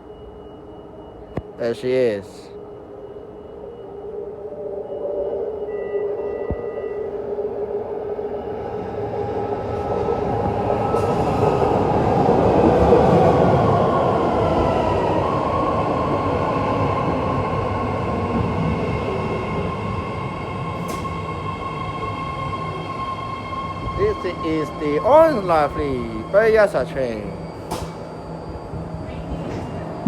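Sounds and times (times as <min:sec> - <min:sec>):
train rumbling into platform: 0:00.0 - 0:30.0.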